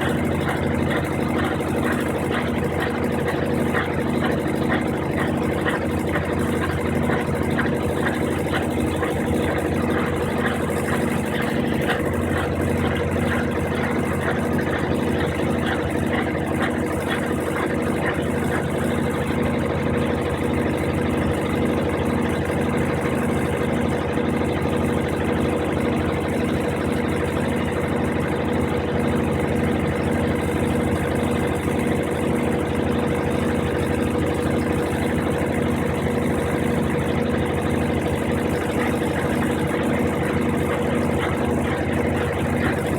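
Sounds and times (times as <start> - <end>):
washing machine motor hum: 0.0 - 42.9.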